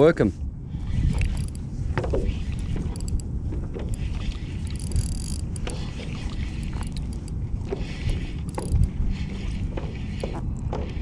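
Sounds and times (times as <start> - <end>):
wind on microphone: 0.0 - 11.0
fishing reel whirr: 0.7 - 11.0.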